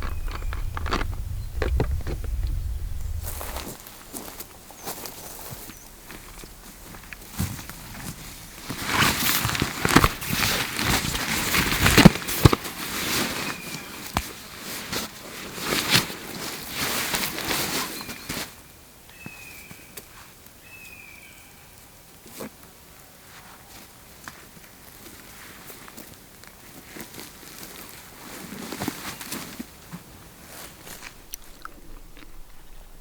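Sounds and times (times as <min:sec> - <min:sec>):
footsteps through dry vegetation: 0:00.0 - 0:18.4, 0:24.6 - 0:33.0.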